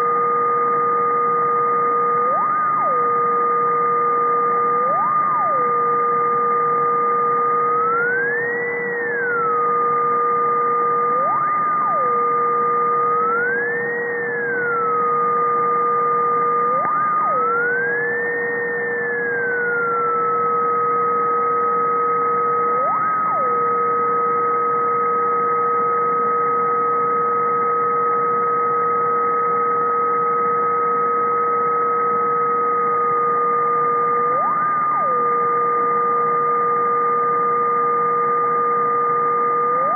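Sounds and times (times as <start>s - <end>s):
low electronic tone: 0.0s - 39.9s.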